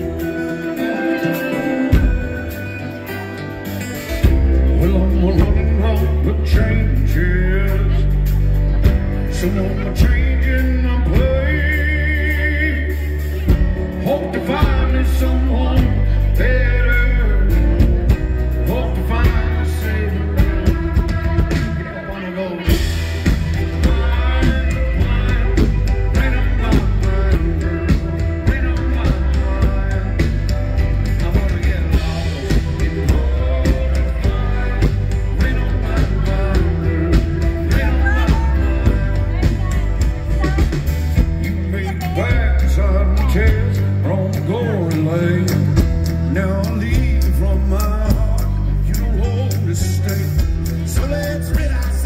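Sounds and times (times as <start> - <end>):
acoustic guitar: 0.0 - 52.0
electric bass: 0.0 - 52.0.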